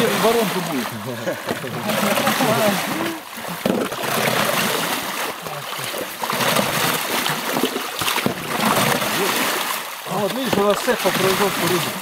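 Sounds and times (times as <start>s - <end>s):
shovels splashing water: 0.0s - 12.0s.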